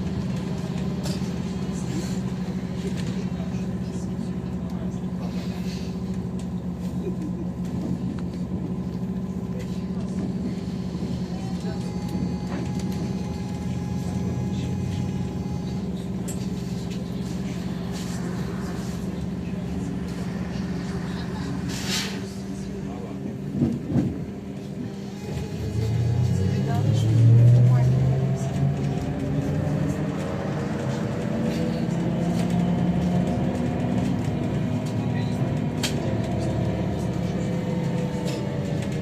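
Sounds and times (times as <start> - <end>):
road rumble: 0.0 - 39.0.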